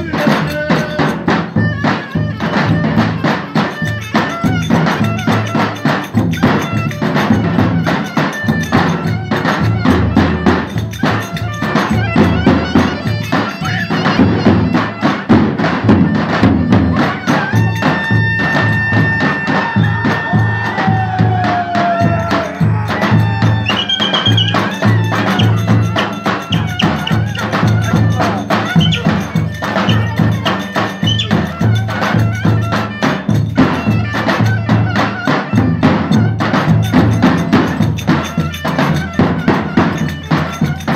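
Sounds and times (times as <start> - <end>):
reedy wind instrument melody: 0.0 - 40.9.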